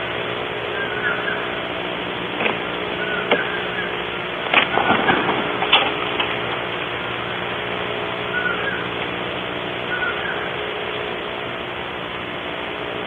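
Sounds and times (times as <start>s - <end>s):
microphone hiss and hum: 0.0s - 13.0s.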